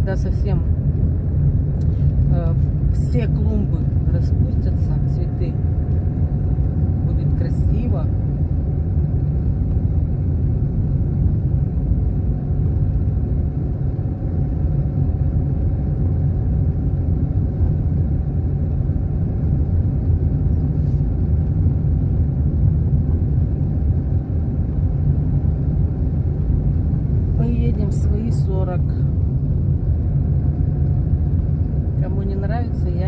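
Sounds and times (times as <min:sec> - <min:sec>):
car engine and tyre noise: 0:00.0 - 0:33.0.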